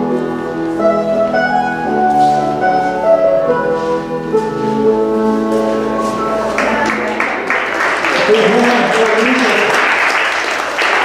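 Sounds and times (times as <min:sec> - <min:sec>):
piano: 0:00.0 - 0:11.0.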